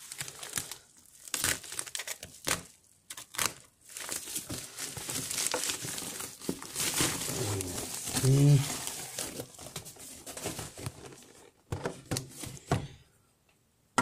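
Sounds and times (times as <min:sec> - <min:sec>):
plastic bag tearing and crinkling: 0:00.0 - 0:11.5.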